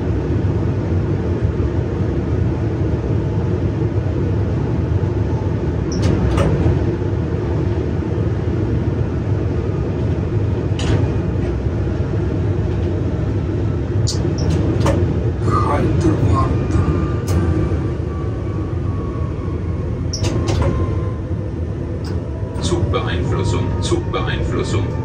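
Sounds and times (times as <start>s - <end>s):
electric train rumbling on track: 0.0s - 25.0s.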